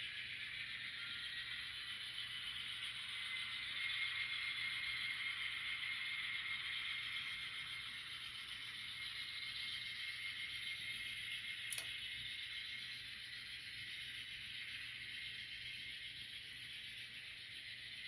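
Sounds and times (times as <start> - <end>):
model train motor whine: 0.0 - 18.0.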